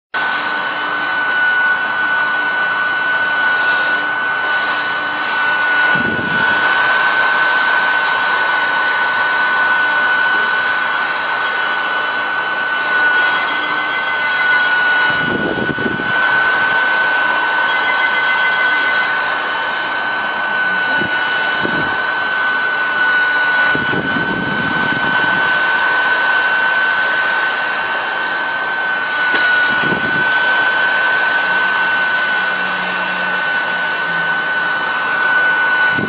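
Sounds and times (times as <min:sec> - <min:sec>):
small vacuum motor whine: 0:00.2 - 0:36.0.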